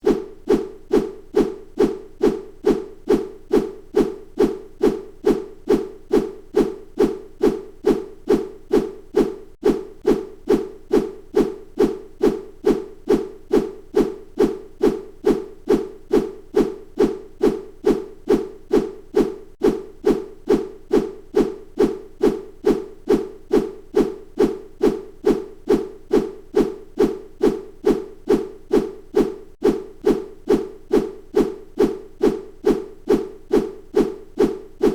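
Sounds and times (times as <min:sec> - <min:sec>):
bamboo stick swishing through air: 0:00.0 - 0:34.9.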